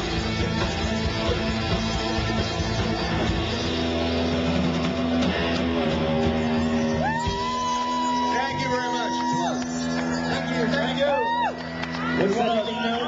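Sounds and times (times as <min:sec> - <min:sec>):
electric guitar: 0:00.0 - 0:12.7
live rock band playing: 0:00.0 - 0:13.0.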